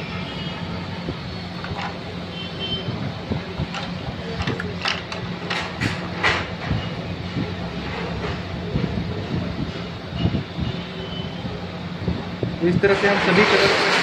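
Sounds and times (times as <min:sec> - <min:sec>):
steady low background hum: 0:00.0 - 0:13.0.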